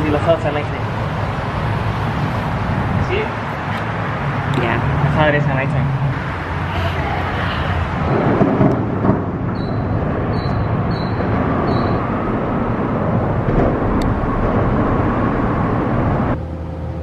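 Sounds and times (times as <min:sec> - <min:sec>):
vehicle rumble and rushing hiss: 0:00.0 - 0:17.0.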